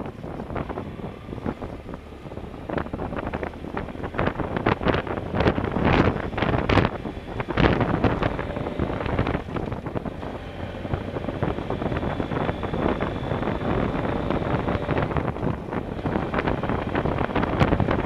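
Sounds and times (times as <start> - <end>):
motorcycle engine running: 0.0 - 18.0
wind over microphone: 0.0 - 18.0.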